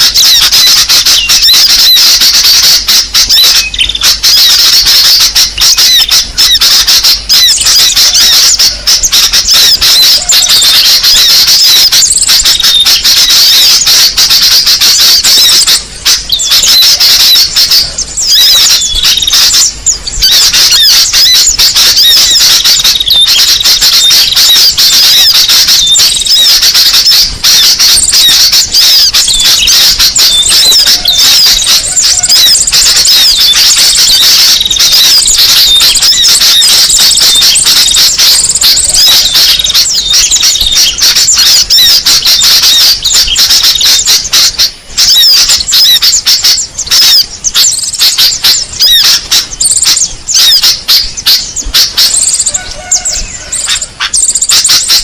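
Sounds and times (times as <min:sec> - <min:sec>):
small songbirds twittering: 0:00.0 - 0:55.0.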